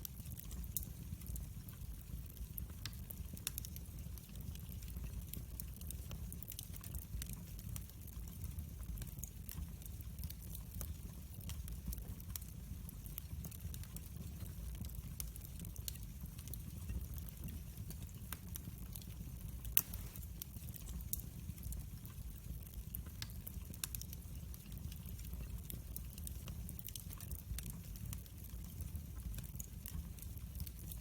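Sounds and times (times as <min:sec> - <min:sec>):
low fire rumble: 0:00.0 - 0:31.0
wood fire crackling and popping: 0:00.0 - 0:31.0.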